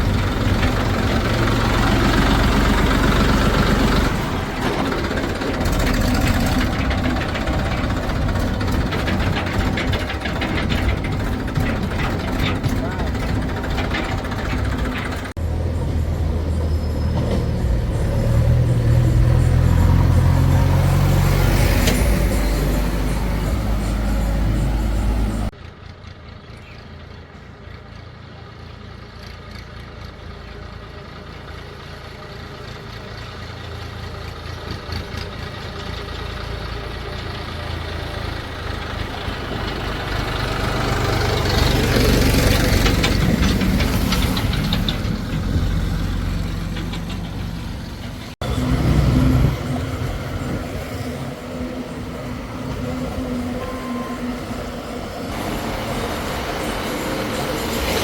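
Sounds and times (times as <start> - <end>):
diesel engines working: 0.0 - 58.0.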